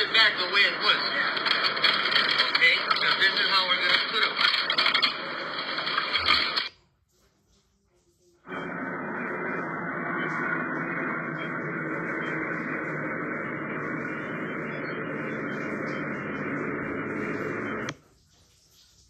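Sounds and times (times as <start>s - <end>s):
muffled static hiss: 0.0s - 6.8s, 8.4s - 18.0s.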